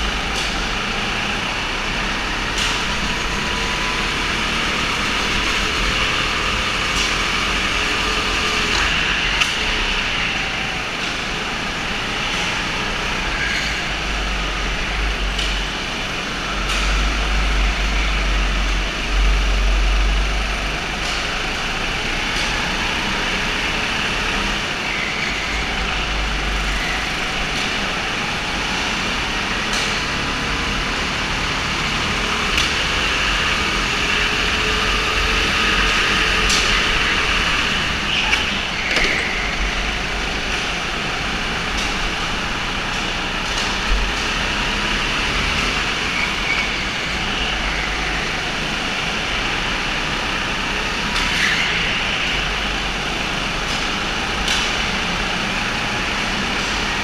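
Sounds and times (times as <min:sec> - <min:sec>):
go-kart engines racing: 0:00.0 - 0:57.0.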